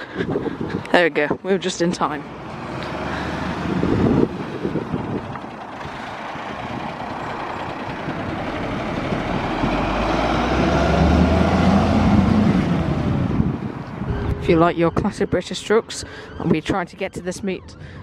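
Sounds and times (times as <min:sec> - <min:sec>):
truck diesel engine accelerating: 0:00.0 - 0:18.0.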